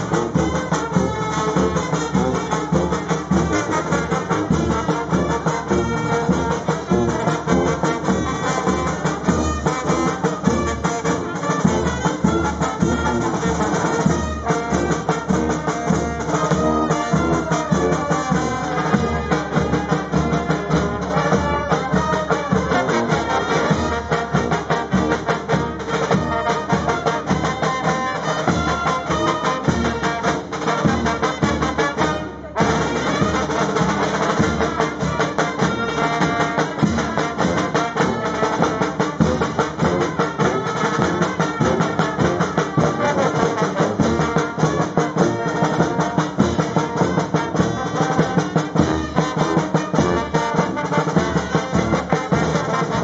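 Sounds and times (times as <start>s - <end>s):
brass band playing a march: 0.0s - 53.0s.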